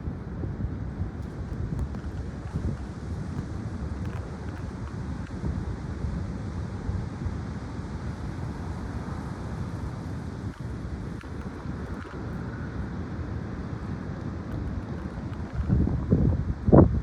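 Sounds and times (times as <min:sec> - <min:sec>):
gusty wind buffeting microphone: 0:00.0 - 0:17.0.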